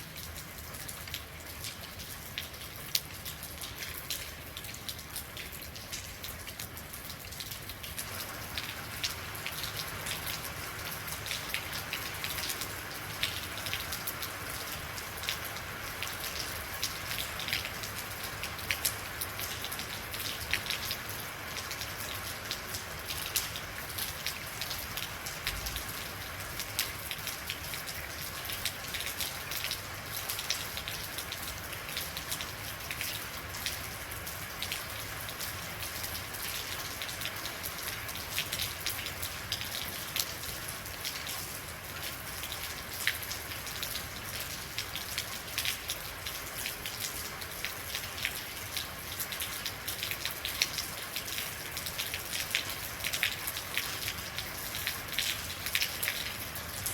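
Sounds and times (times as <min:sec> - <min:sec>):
rain pattering on hard surface: 0:00.0 - 0:56.9.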